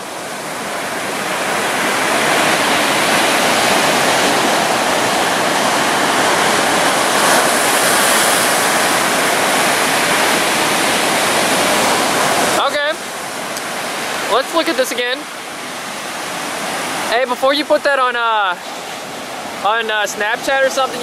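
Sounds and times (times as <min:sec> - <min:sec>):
ocean waves washing on beach: 0:00.0 - 0:21.0.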